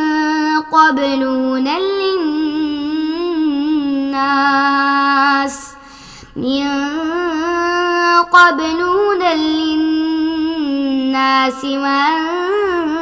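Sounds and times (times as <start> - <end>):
woman reciting melodically: 0.0 - 13.0.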